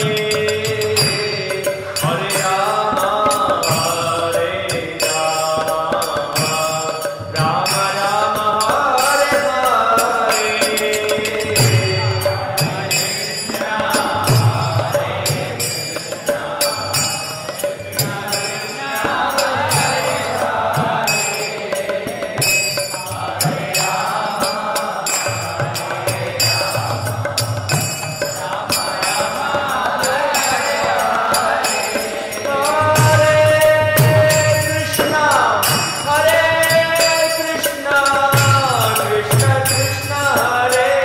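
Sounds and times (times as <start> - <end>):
mantra chanting over music: 0.0 - 41.0
steady percussive beat: 0.0 - 41.0.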